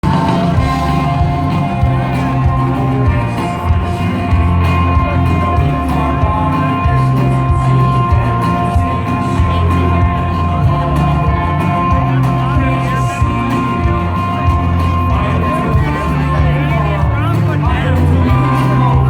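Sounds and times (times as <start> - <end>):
heavy bass line: 0.0 - 19.0
live rock band playing: 0.0 - 19.0.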